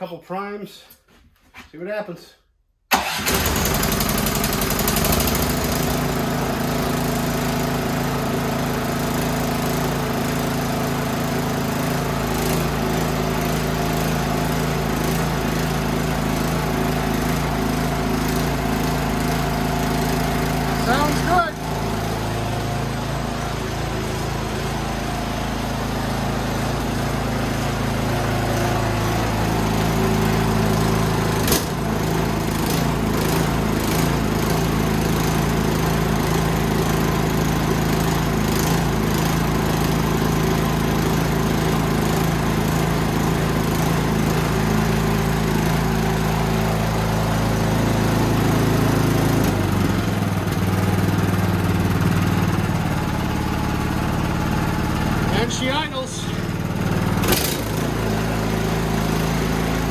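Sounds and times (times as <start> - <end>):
snowblower engine running: 2.9 - 59.9.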